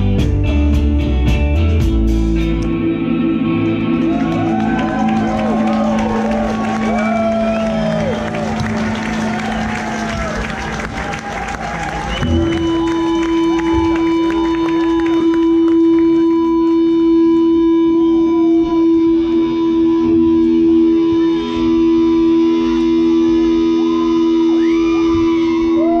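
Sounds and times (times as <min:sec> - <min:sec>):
electric guitars holding low drone: 0:00.0 - 0:26.0.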